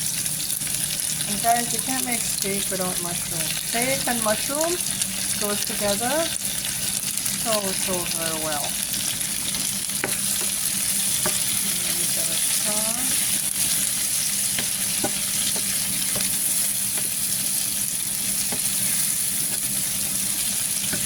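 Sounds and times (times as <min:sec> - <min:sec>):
vegetables sizzling in a frying pan: 0:00.0 - 0:21.0.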